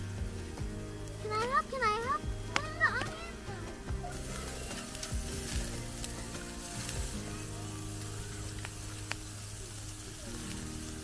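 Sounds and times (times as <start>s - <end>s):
patties sizzling on a grill: 0.0s - 11.0s.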